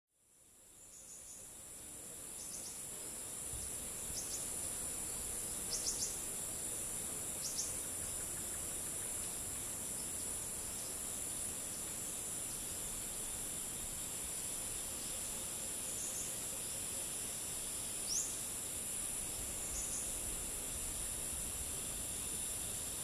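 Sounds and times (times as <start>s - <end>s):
crickets and cicadas droning: 0.2s - 23.0s.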